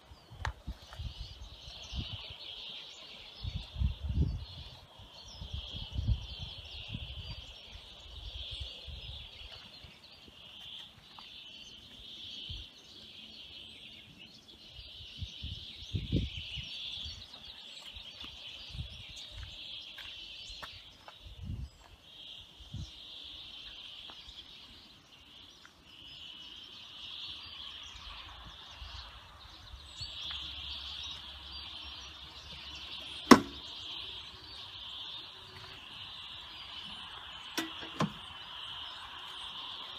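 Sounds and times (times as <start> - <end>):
high chirping of small animals: 0.0 - 39.9.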